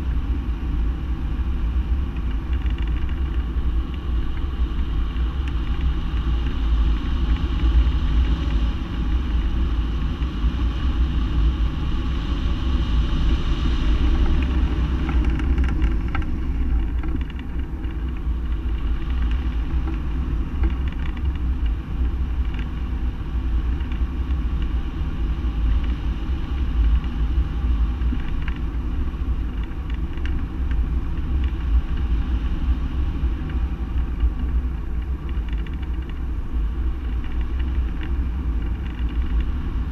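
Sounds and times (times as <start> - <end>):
wind buffeting a microphone: 0.0 - 39.9.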